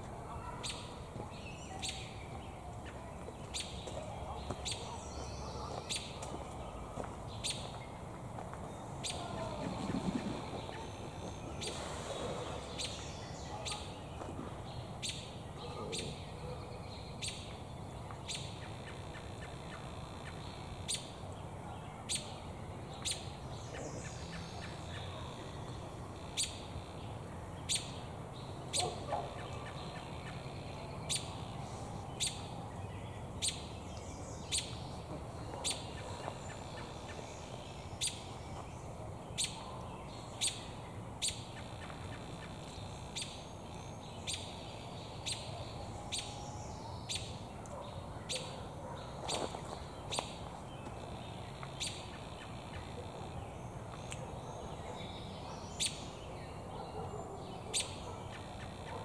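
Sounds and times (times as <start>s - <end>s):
bird chirp calls: 0.3s - 8.0s, 8.7s - 21.2s, 22.0s - 59.0s.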